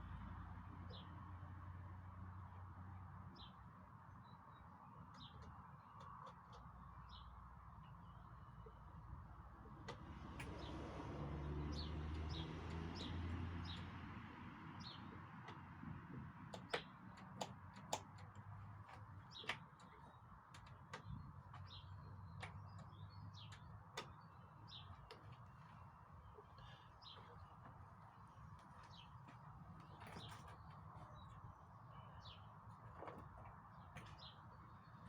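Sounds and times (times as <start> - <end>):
small birds chirping: 3.4 - 35.0.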